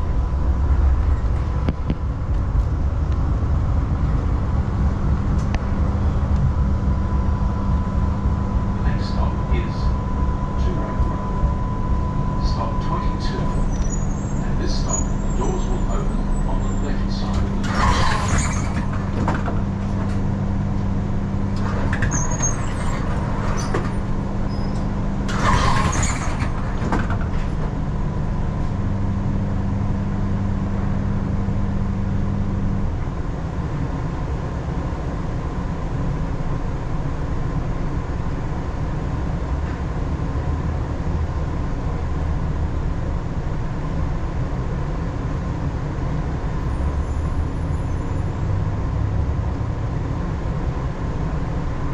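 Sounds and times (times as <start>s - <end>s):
electrical hum: 0.0s - 46.7s
low drone: 0.0s - 51.9s.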